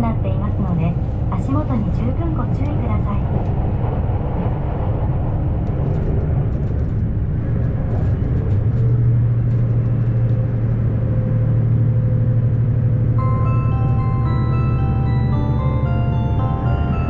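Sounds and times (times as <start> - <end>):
railcar engine drone: 0.0 - 17.0
track rumble: 0.0 - 17.0.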